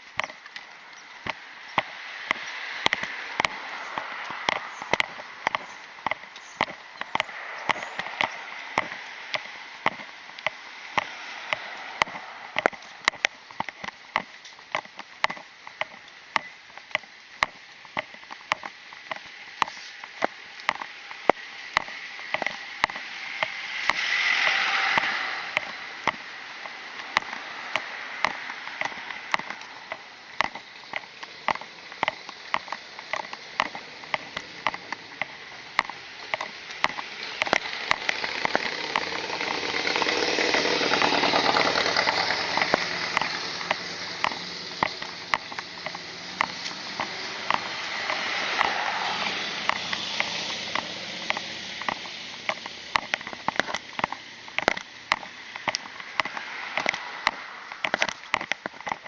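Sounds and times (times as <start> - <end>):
outdoor hiss: 0.0 - 58.8
footsteps walking: 0.0 - 59.0
vehicles passing: 0.0 - 59.0.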